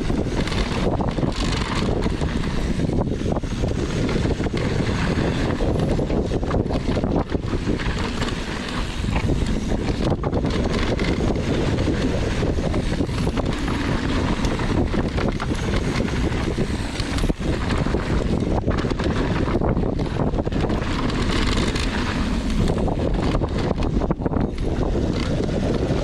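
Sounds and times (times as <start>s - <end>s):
bike rattling over rough terrain: 0.0s - 26.0s
wind rushing over microphone: 0.0s - 26.0s.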